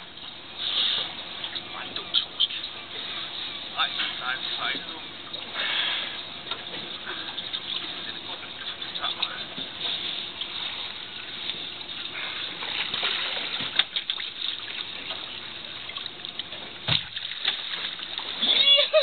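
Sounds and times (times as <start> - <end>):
water lapping against boat: 0.0 - 19.0.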